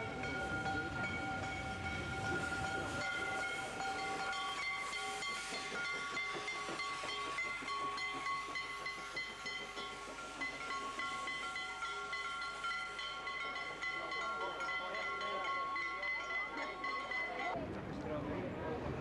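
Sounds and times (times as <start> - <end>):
steam hissing: 0.0 - 17.4.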